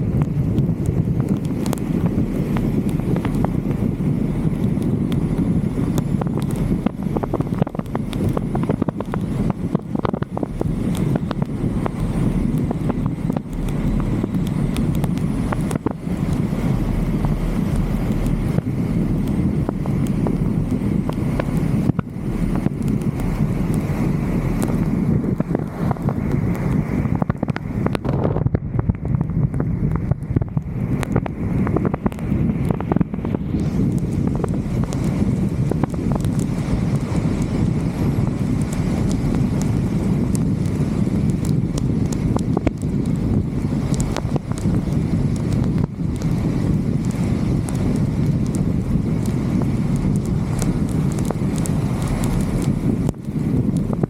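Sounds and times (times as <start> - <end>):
low road rumble: 0.0 - 54.0
wind buffeting microphone: 0.0 - 54.0.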